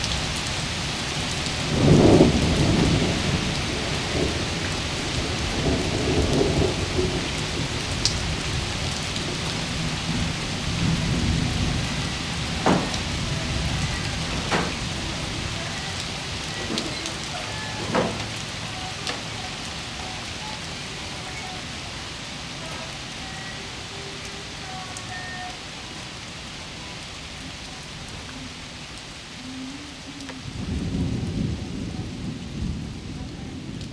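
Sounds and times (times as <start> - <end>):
steady rain: 0.0 - 33.9
thunder rumbling: 0.0 - 33.9.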